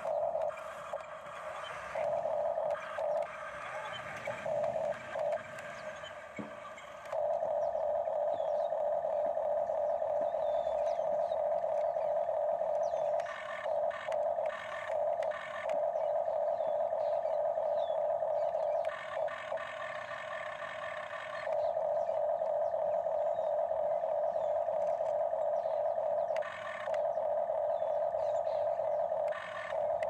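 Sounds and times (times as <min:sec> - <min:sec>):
toy excavator motors whining: 0:00.0 - 0:30.0.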